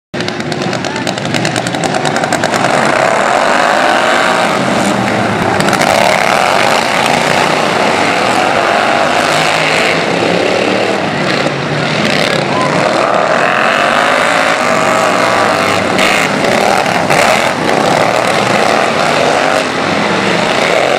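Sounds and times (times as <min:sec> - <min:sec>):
mowers passing by: 0:00.2 - 0:20.9
small engines revving high: 0:00.3 - 0:20.9.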